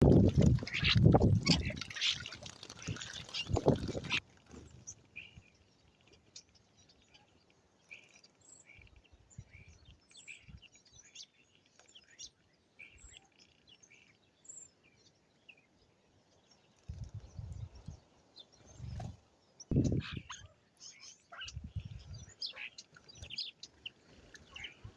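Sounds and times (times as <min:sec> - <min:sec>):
birds chirping faintly: 0:00.0 - 0:24.9.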